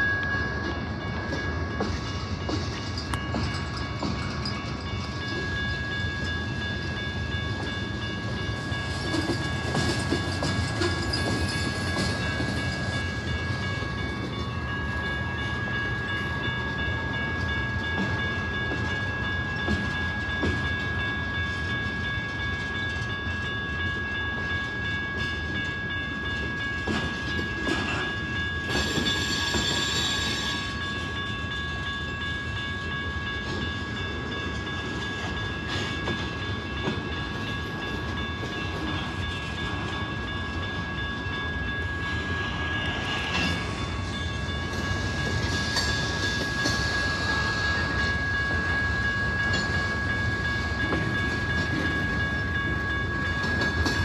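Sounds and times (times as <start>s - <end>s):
crossing signal bell ringing: 0.0s - 54.0s
freight train rumbling past: 0.0s - 54.0s.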